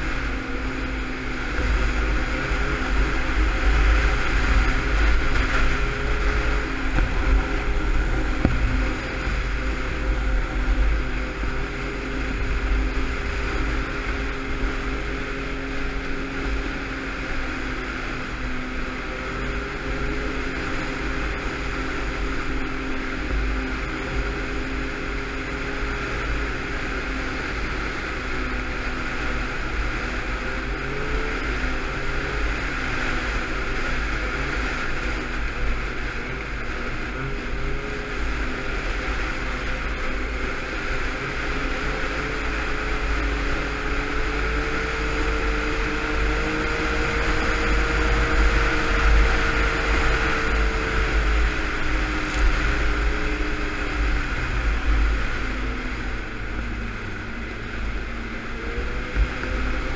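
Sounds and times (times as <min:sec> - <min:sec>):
snowmobile engine running: 0:00.0 - 0:59.9
wind buffeting microphone: 0:00.0 - 0:59.9.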